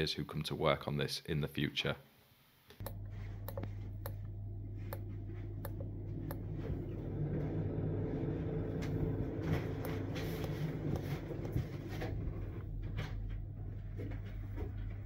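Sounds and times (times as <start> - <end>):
ventilation fan humming: 2.7 - 15.0.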